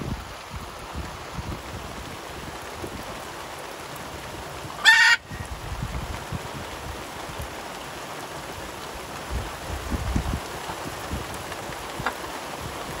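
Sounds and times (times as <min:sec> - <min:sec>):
rain on boat deck: 0:00.0 - 0:13.0.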